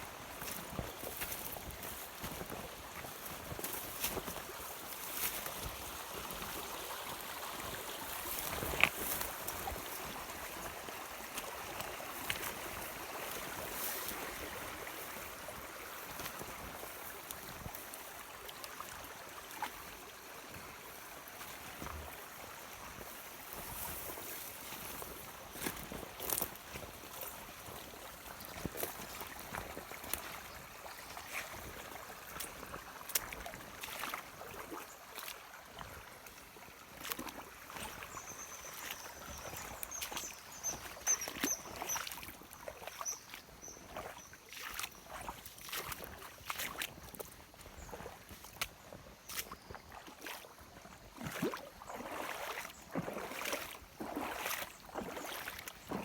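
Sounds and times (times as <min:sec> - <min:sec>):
water sloshing and trickling: 0:00.1 - 0:56.0.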